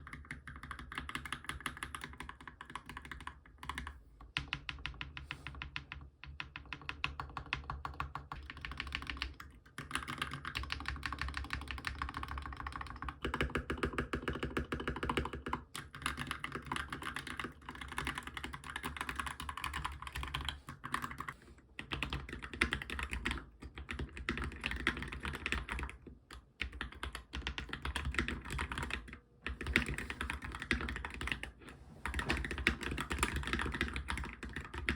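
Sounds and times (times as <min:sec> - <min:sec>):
fast typing on mechanical keyboard: 0:00.0 - 0:34.9.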